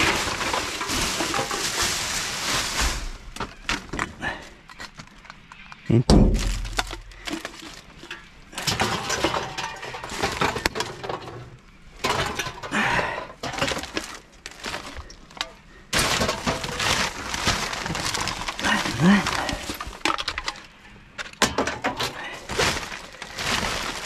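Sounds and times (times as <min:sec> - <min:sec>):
rummaging through rubbish: 0:00.0 - 0:24.0.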